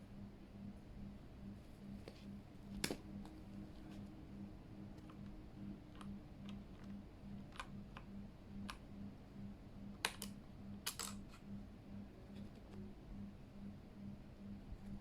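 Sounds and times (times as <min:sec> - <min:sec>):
faint pulsing low hum: 0:00.0 - 0:15.0.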